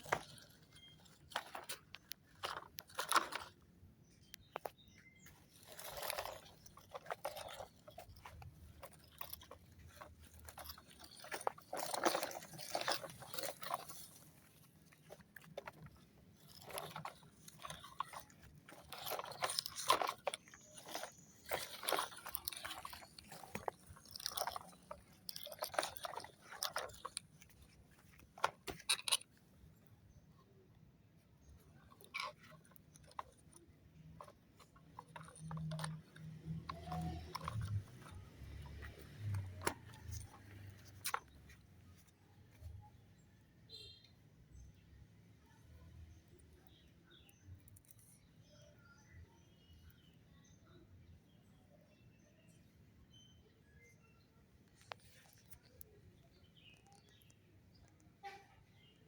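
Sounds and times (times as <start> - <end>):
crunching and scraping: 0.0 - 59.0.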